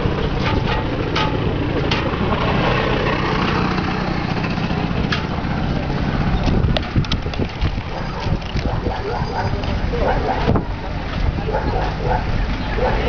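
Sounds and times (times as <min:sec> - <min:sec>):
hand truck rolling on street: 0:00.0 - 0:13.0.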